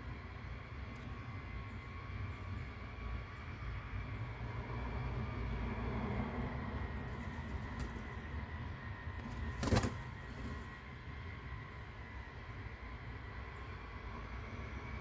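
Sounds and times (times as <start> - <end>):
faint steady hum: 0.0 - 15.0
low city rumble: 0.0 - 15.0.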